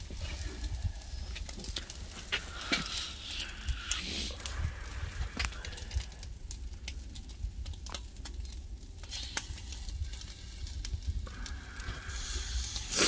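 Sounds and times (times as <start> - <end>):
steady low rumble: 0.0 - 12.9
fish sizzling on a grill: 0.0 - 13.0.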